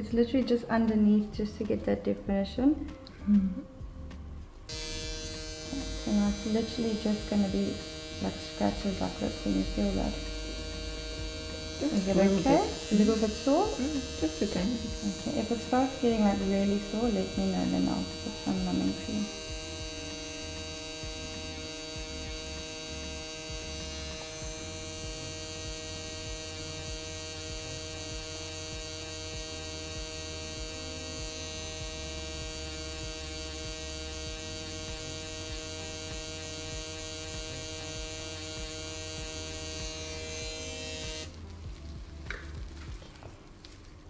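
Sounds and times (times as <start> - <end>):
machine pen buzzing: 4.7 - 41.7.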